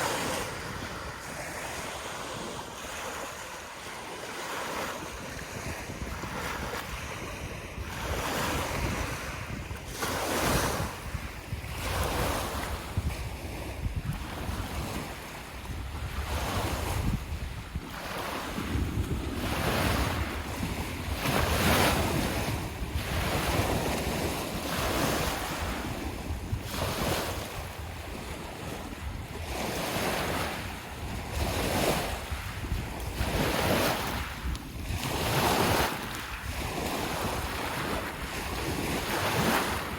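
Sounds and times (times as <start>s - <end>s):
lake waves splashing: 0.0s - 39.9s
wind rumbling on microphone: 0.0s - 39.9s.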